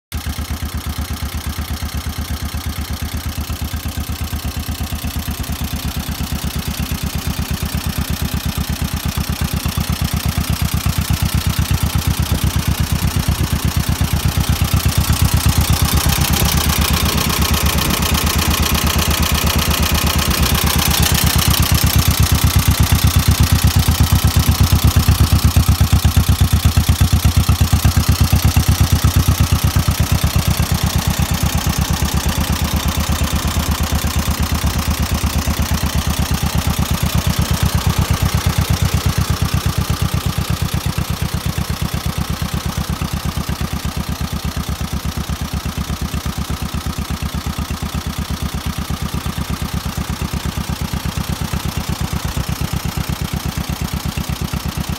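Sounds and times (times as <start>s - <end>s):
tractor engine idling: 0.1s - 54.9s.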